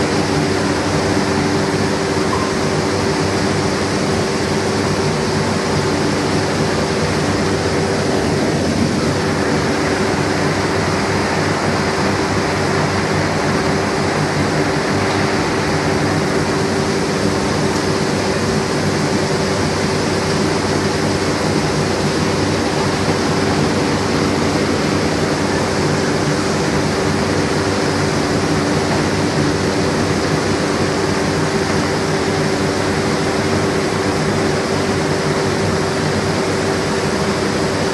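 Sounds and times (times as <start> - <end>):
steady machine hum: 0.0 - 37.9.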